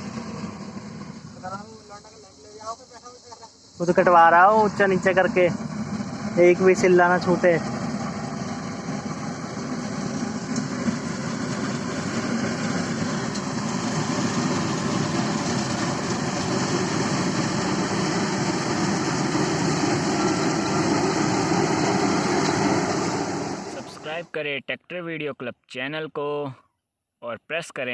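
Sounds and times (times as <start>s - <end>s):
combine harvester running: 0.0s - 24.3s.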